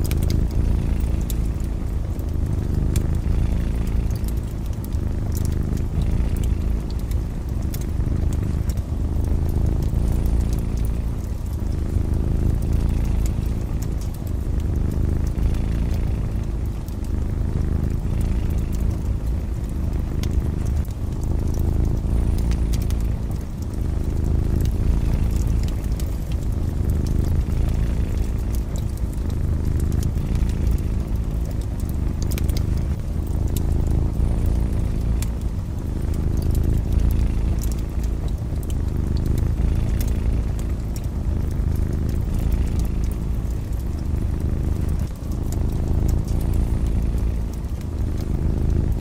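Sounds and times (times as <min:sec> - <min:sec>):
cat purring: 0:00.0 - 0:49.0
wood fire crackling and popping: 0:00.0 - 0:49.0.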